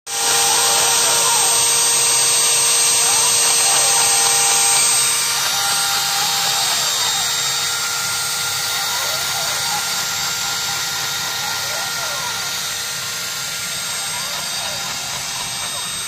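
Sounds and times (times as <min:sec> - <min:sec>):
dust extractor air hiss: 0:00.1 - 0:16.0
router spindle whining: 0:00.1 - 0:16.0
stepper motor tones: 0:00.1 - 0:16.0.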